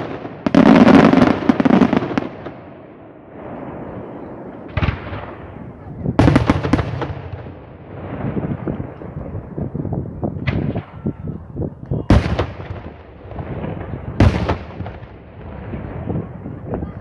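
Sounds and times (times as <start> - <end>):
fireworks loud bangs: 0.0 - 2.7, 3.3 - 9.5, 10.3 - 11.2, 12.1 - 17.0
fireworks crackling: 0.0 - 17.0.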